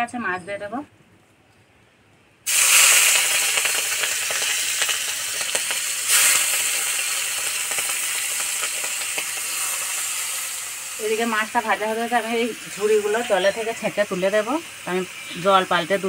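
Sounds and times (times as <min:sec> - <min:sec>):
prawns sizzling in hot oil: 0:02.5 - 0:16.0.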